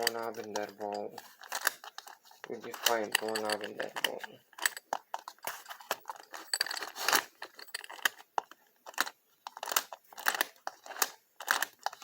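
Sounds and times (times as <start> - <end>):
metallic lock clicks and rattles: 0.0 - 12.0.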